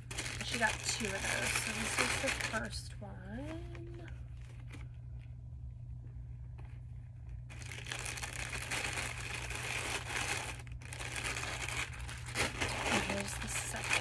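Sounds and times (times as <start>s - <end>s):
plastic packaging crinkling: 0.0s - 5.3s, 6.5s - 14.0s
low steady hum: 0.0s - 14.0s.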